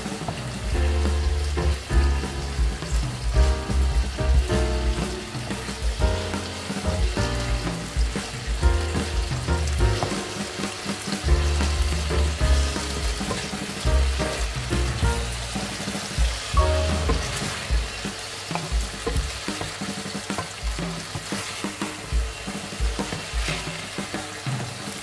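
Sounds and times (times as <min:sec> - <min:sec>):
background music with bass: 0:00.0 - 0:21.3
meat sizzling in oil: 0:00.0 - 0:25.0.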